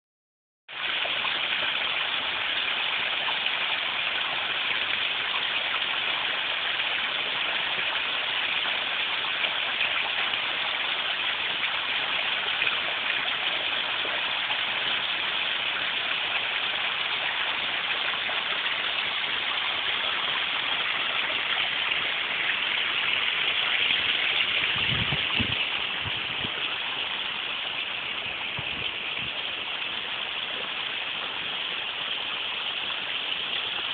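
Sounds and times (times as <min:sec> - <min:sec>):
waterfall rushing over rocks: 0:00.7 - 0:33.9.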